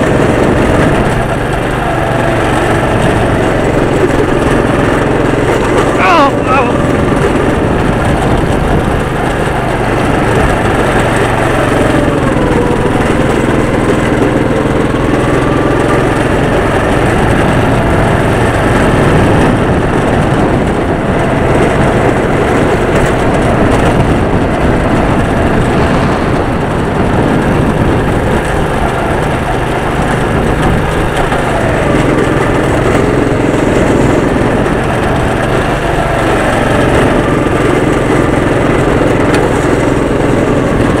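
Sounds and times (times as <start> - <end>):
go-kart engine running: 0.0 - 41.0.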